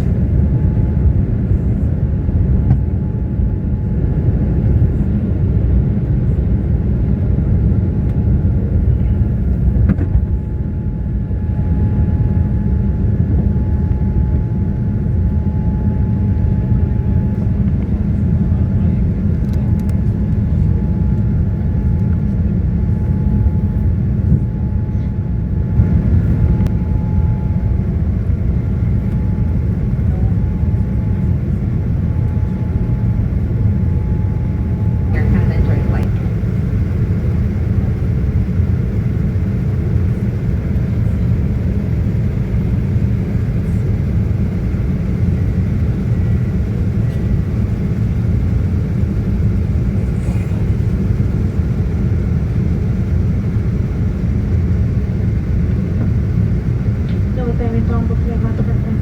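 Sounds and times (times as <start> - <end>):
jet engines rumbling: 0.0 - 59.0
thin jet engine whine: 0.0 - 59.0.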